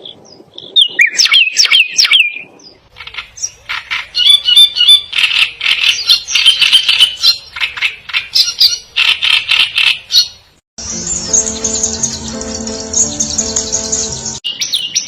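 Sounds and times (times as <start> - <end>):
birds chirping and chattering: 0.0 - 15.0.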